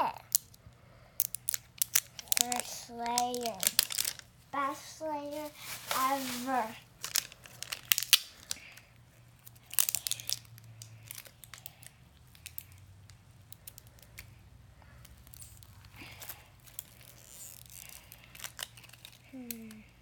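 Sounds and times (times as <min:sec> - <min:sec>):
rustling and small clicks: 0:01.2 - 0:04.3, 0:05.3 - 0:19.9
foil wrapper crinkling and tearing: 0:01.2 - 0:12.8, 0:15.0 - 0:19.8.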